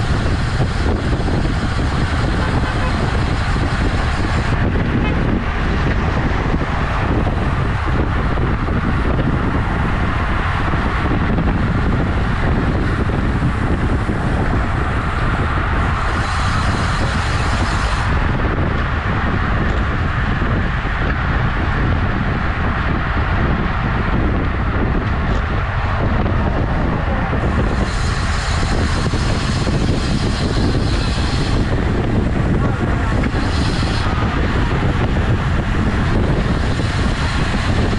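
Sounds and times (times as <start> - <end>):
road and traffic noise: 0.0 - 37.9
wind buffeting microphone: 0.0 - 37.9.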